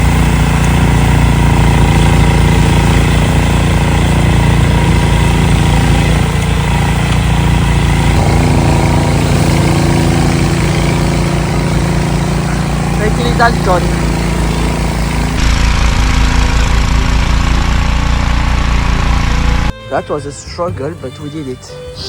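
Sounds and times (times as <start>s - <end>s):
snowblower engine running: 0.0s - 22.0s.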